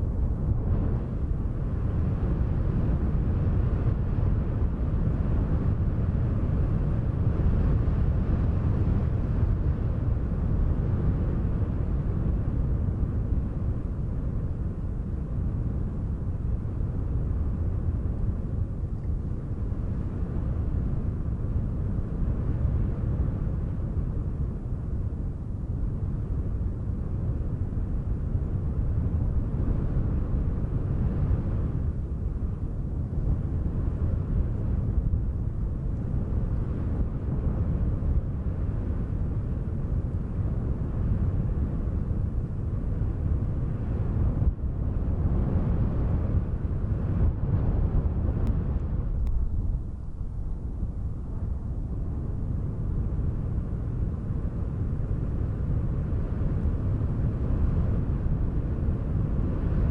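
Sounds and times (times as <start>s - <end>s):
wind rumbling: 0.0s - 59.9s.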